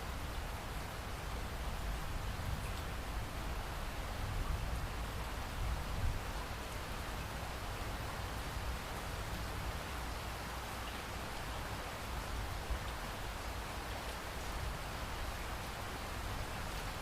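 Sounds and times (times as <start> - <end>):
pouring rain: 0.0 - 17.0.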